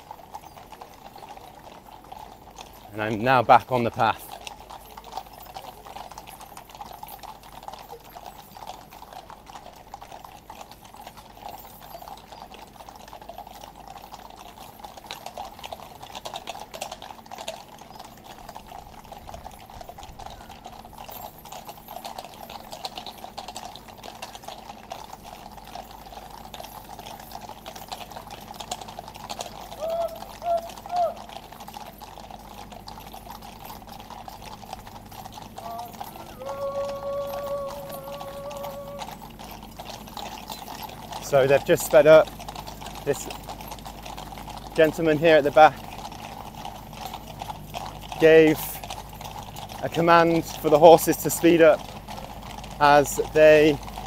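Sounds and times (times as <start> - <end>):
horse hooves clip-clopping on road: 0.0 - 54.0.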